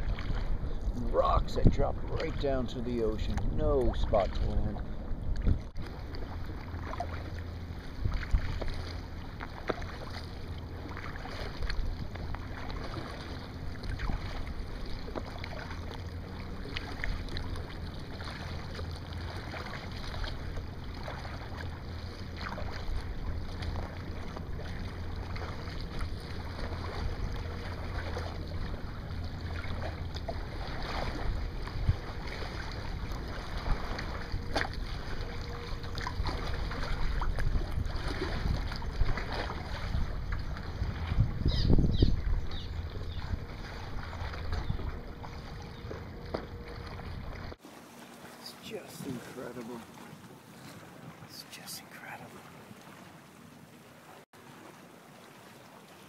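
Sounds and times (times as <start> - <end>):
wind rumble on microphone: 0.0 - 17.7, 18.3 - 47.6
paddle splashing in water: 0.0 - 56.0.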